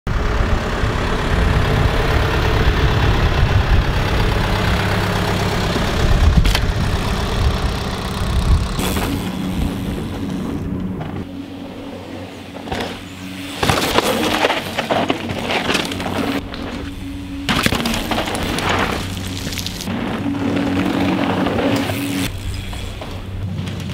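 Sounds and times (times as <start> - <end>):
bike rattling over rough ground: 0.8 - 23.9
tyres skidding over dirt and rock: 1.8 - 23.9.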